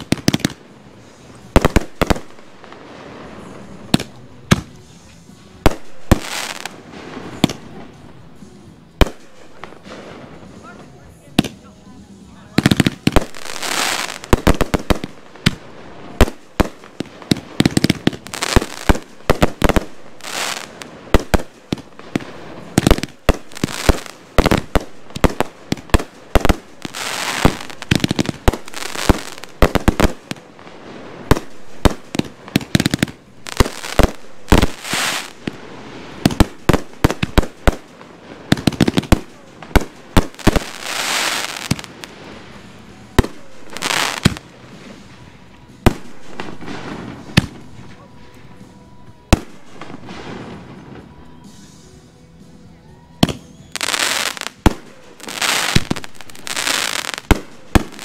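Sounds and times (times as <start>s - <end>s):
fireworks launching and bursting: 0.0s - 48.0s, 48.6s - 52.0s, 53.2s - 58.0s.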